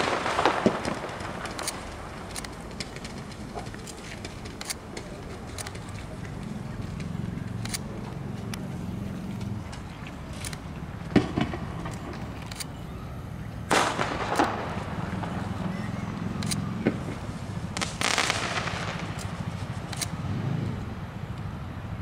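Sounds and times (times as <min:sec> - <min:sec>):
fireworks banging and crackling: 0:00.0 - 0:12.5, 0:13.6 - 0:20.7
low rumble of traffic: 0:00.0 - 0:22.0.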